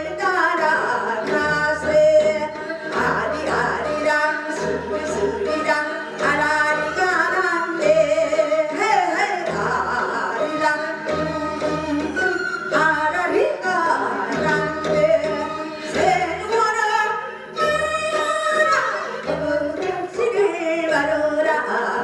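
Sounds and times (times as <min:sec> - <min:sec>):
woman singing into microphone: 0:00.0 - 0:22.0.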